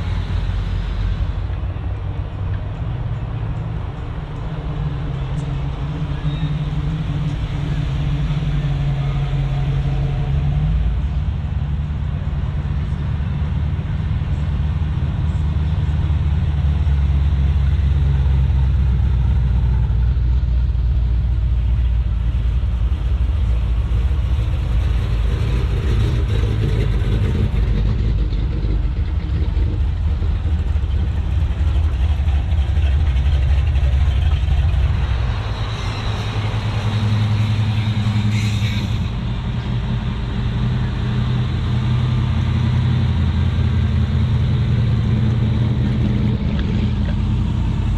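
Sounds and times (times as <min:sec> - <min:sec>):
vehicle engine humming: 0:00.0 - 0:47.9.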